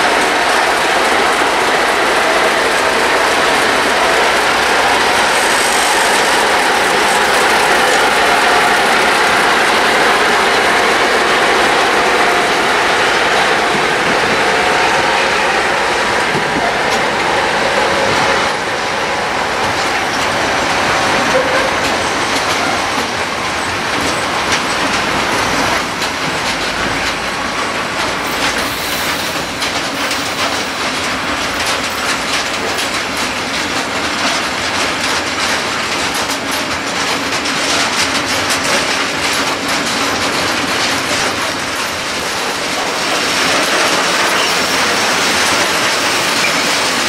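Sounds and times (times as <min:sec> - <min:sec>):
diesel locomotive engine: 0:00.0 - 0:47.0
train wheels clattering over rail joints: 0:00.0 - 0:47.0.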